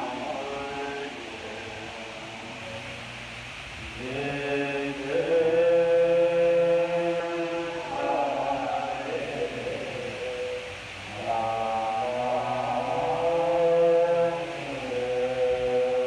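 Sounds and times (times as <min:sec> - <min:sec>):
group chanting in held tones: 0:00.0 - 0:03.1, 0:03.8 - 0:16.0.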